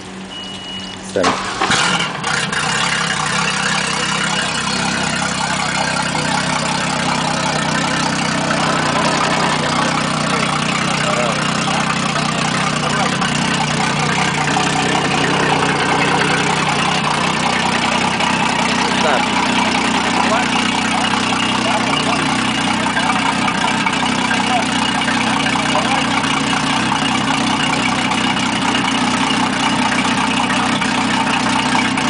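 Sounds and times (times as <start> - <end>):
boat engine idling: 0.0 - 32.0.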